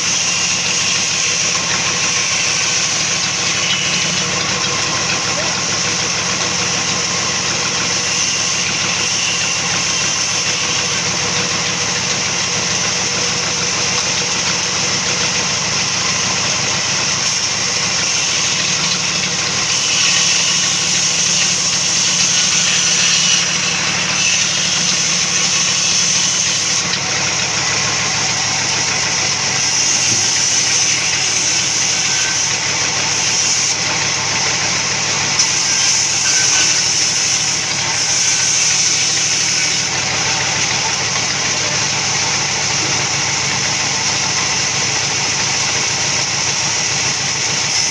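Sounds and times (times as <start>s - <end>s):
sawmill machinery drone: 0.0s - 47.9s.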